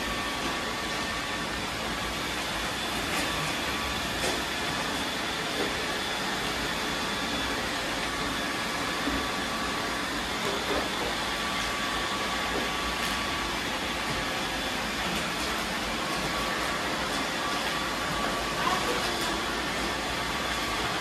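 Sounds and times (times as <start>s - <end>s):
robot vacuums whirring: 0.0s - 21.0s.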